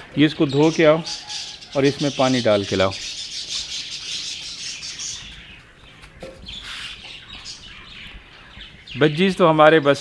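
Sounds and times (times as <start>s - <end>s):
budgerigars twittering: 0.0s - 10.0s.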